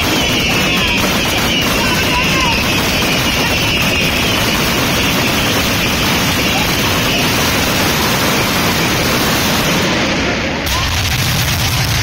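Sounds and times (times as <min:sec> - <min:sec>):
fireworks barrage: 0:00.0 - 0:12.0.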